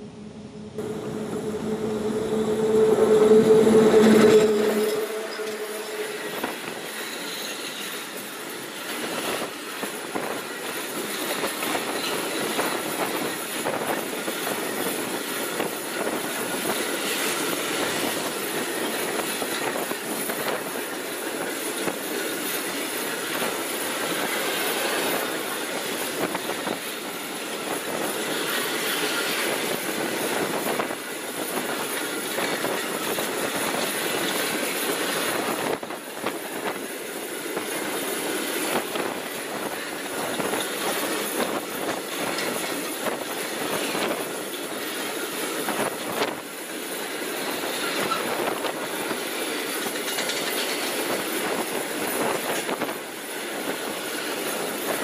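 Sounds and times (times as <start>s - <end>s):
electric locomotive humming: 0.0s - 55.0s
train wheels clicking over rail joints: 7.0s - 55.0s.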